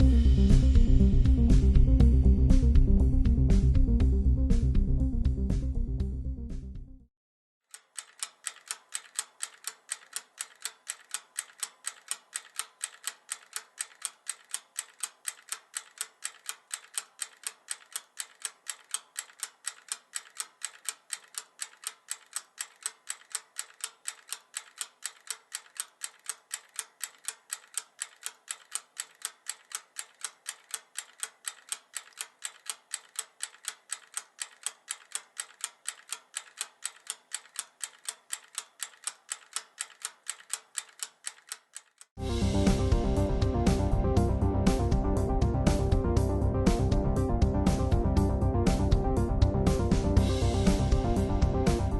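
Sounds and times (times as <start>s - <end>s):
wind-up timer ticking: 7.6s - 51.9s.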